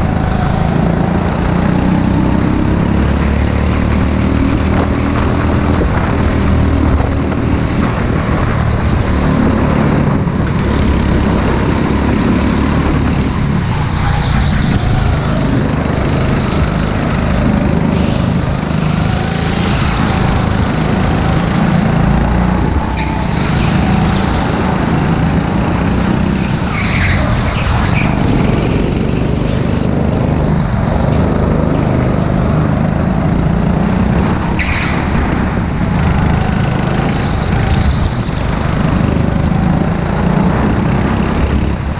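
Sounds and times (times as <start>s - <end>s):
go-kart engine droning: 0.0s - 41.9s.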